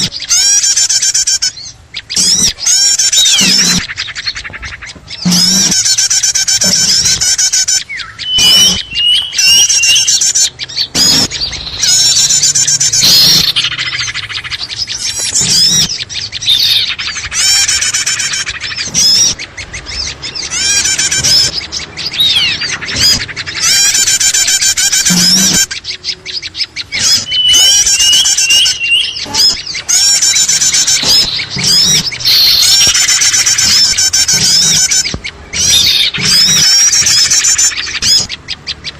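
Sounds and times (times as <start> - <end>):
songbirds chirping and twittering: 0.0 - 38.9
whistled bird notes: 0.0 - 38.9.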